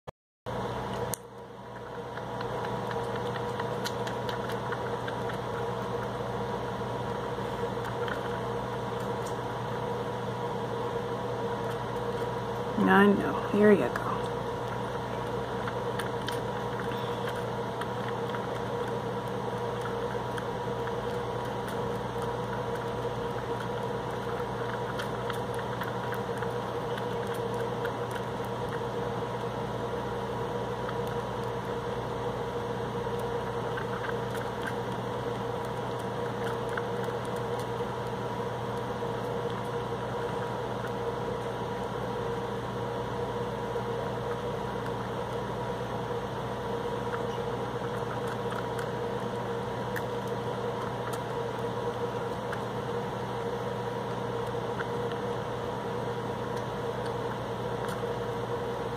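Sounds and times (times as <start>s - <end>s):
steady mechanical hum: 0.5s - 58.9s.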